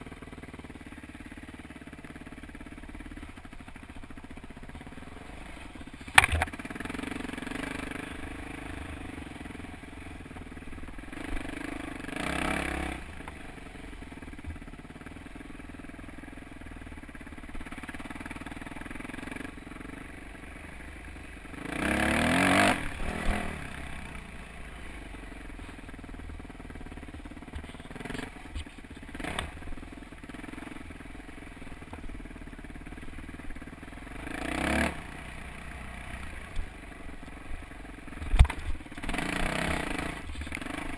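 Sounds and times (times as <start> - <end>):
dirt bike engine revving: 0.0 - 15.6, 21.4 - 32.0, 32.6 - 36.7, 37.4 - 40.9.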